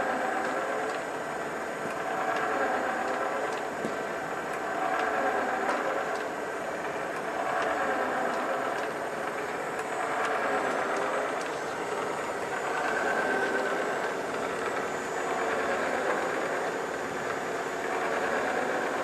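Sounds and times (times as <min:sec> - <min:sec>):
factory machinery drone: 0:00.0 - 0:19.0.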